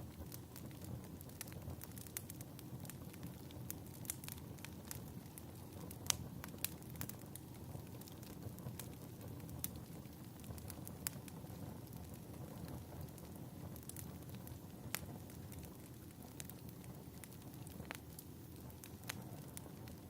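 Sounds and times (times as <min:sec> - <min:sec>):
fire pops and snaps: 0:00.0 - 0:20.0
low rumble of burning logs: 0:00.0 - 0:20.0.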